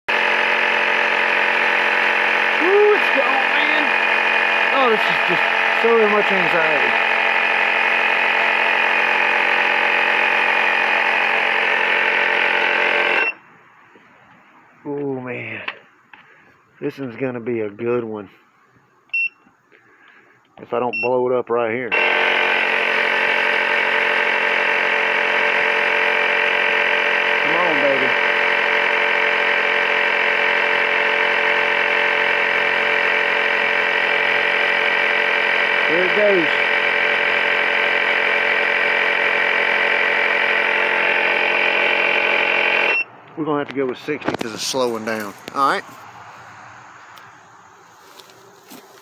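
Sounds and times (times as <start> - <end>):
air compressor buzzing whine: 0.0 - 49.0.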